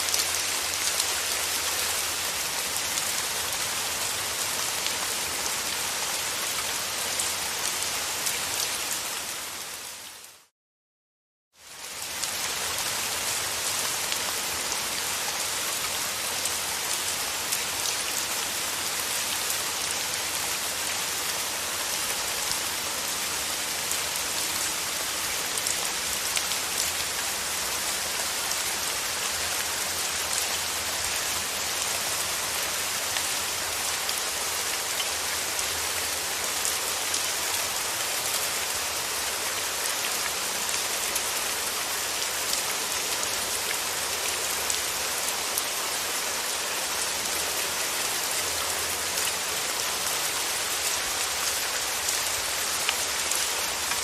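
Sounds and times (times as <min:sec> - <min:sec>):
steady rain hiss: 0:00.0 - 0:10.5, 0:11.6 - 0:54.0.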